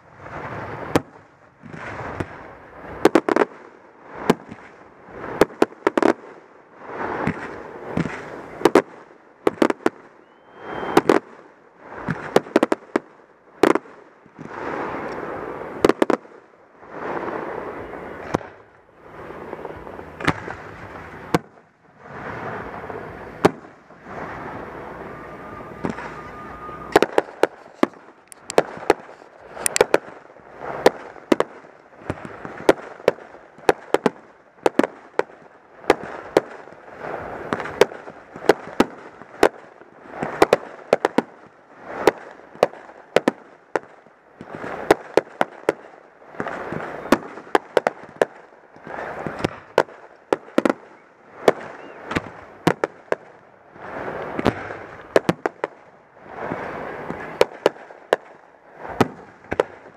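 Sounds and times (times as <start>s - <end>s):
fireworks bangs: 0.0s - 59.9s
rushing hiss of fireworks: 0.0s - 59.9s.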